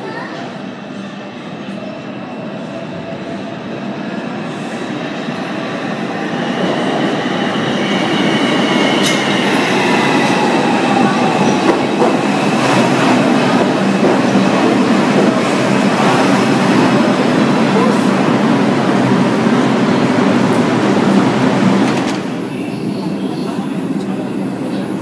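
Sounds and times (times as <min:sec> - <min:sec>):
subway train rumbling past: 0:00.0 - 0:25.0.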